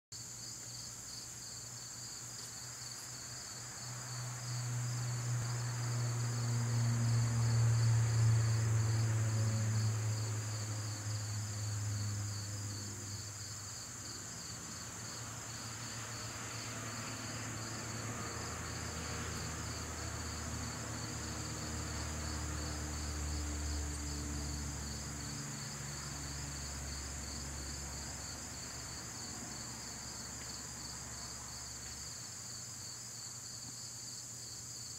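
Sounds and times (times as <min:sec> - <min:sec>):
crickets and insects trilling: 0:00.2 - 0:34.9.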